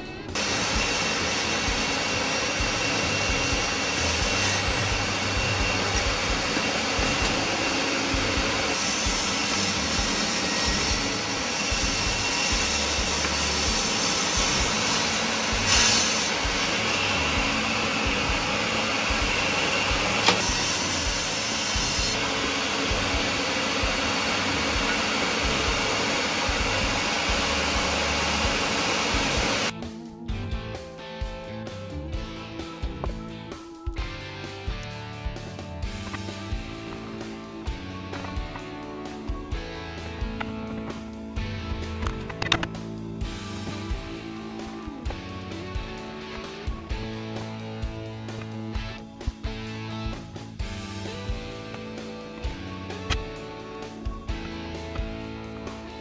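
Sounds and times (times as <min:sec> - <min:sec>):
table saw cutting wood: 0:00.0 - 0:29.8, 0:35.4 - 0:56.0.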